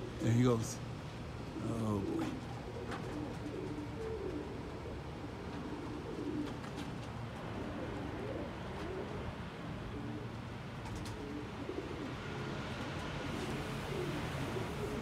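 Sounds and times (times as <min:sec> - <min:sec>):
low background hum: 0:00.0 - 0:15.0
pigeons cooing: 0:00.0 - 0:15.0.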